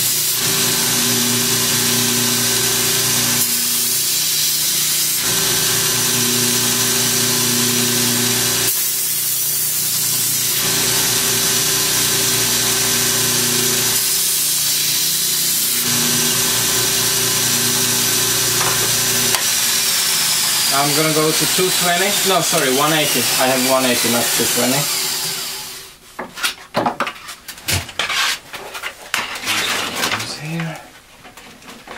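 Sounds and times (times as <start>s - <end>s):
steel grinding on abrasive belt: 0.0s - 25.9s
belt grinder motor hum: 0.1s - 25.9s.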